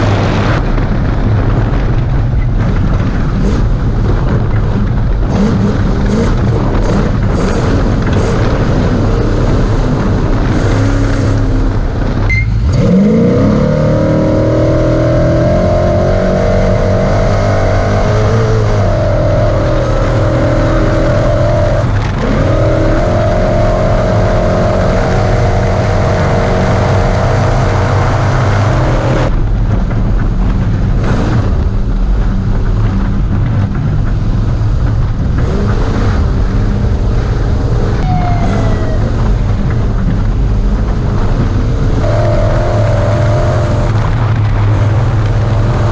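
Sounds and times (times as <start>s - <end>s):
loud road noise: 0.0s - 45.9s
race truck engine revving: 2.6s - 29.7s, 30.5s - 45.9s.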